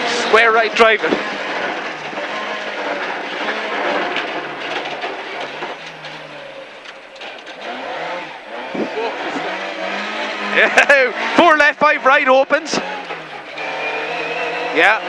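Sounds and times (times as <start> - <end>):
rally car engine running hard: 0.0 - 15.0
road and tyre noise: 0.0 - 15.0.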